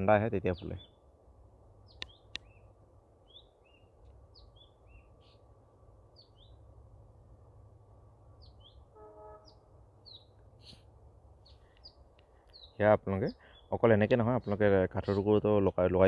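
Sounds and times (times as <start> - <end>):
faint birdsong chirps: 0.0 - 16.0
low background rumble: 0.0 - 16.0.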